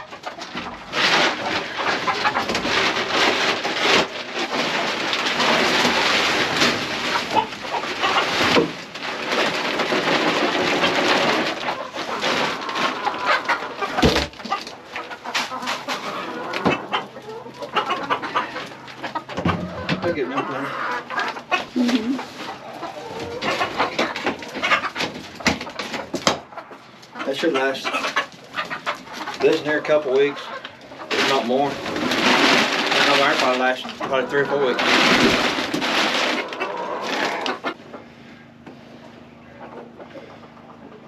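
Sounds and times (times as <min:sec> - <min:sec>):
hens clucking: 0:00.0 - 0:41.0.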